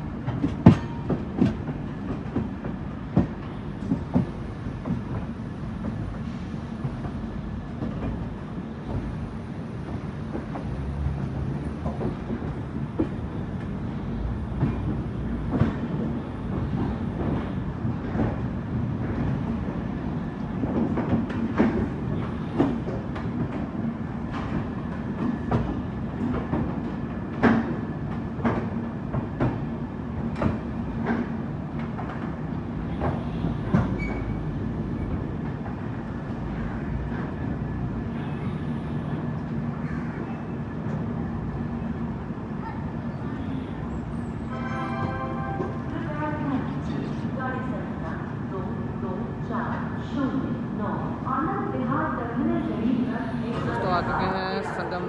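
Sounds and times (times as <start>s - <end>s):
train coach rumble: 0.0s - 55.0s.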